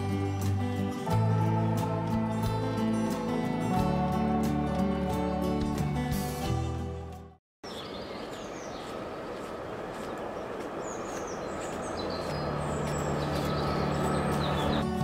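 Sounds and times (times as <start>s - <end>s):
songbirds chirping: 0.0s - 6.0s, 7.6s - 15.0s.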